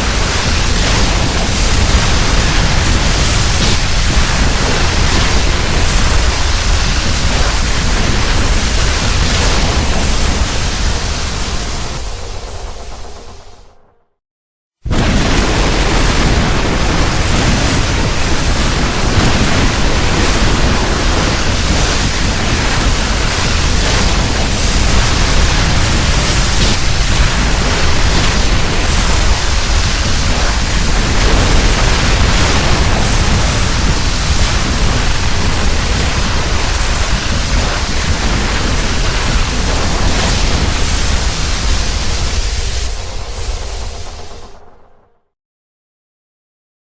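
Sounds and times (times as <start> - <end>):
rushing wind noise: 0.0 - 14.0, 14.9 - 45.2.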